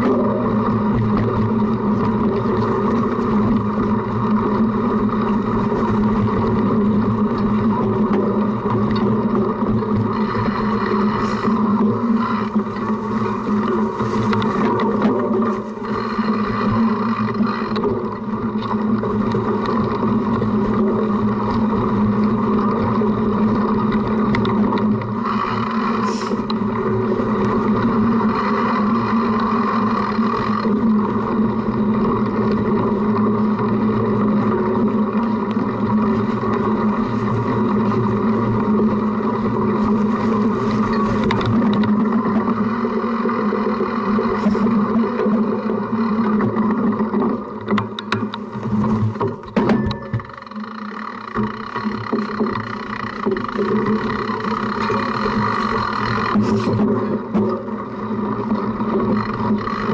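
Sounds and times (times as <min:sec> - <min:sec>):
bike rumbling over rough ground: 0:00.0 - 0:59.9
wind: 0:00.0 - 0:59.9.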